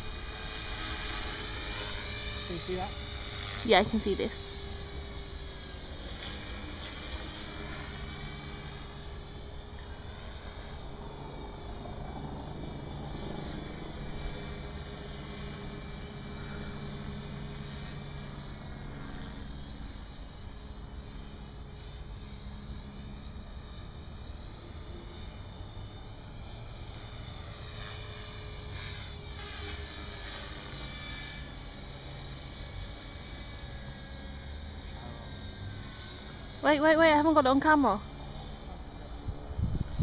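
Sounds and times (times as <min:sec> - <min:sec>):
rc helicopter motor whine: 0:00.0 - 0:40.0
rotor blades buzzing: 0:00.0 - 0:40.0.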